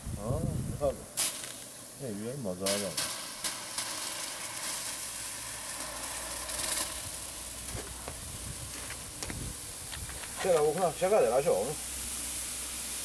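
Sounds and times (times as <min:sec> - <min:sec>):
hissing and fizzing reaction: 0:00.3 - 0:13.0.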